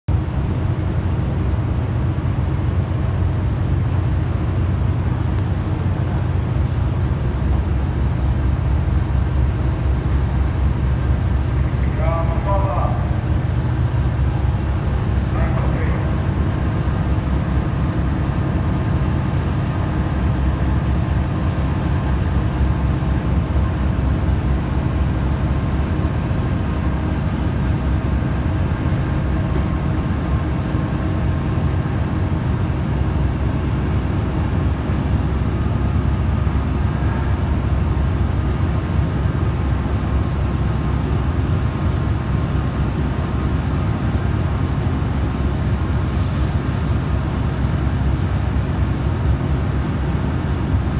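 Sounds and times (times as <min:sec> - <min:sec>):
faint high whine: 0:00.1 - 0:49.1
heavy diesel machinery drone: 0:00.1 - 0:50.9.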